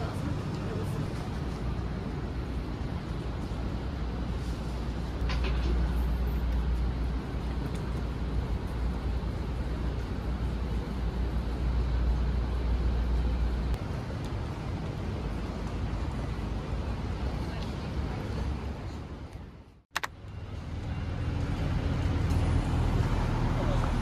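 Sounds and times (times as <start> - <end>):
low vehicle rumble: 0.0 - 24.0.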